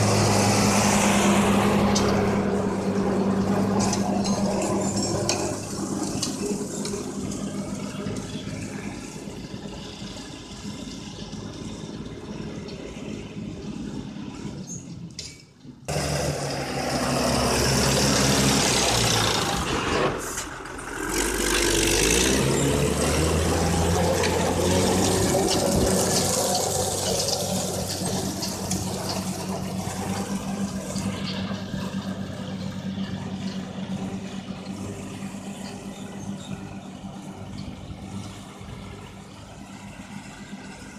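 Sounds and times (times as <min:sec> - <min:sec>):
manure spreader rushing noise: 0:00.0 - 0:15.0, 0:15.9 - 0:40.9
tractor engine hum: 0:00.0 - 0:40.9.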